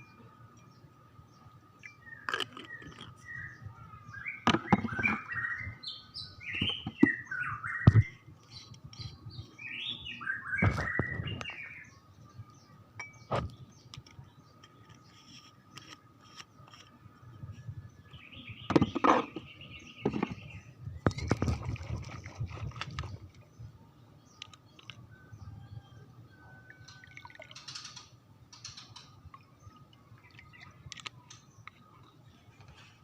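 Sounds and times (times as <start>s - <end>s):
small bird chirping: 0.0s - 21.6s, 22.5s - 33.0s.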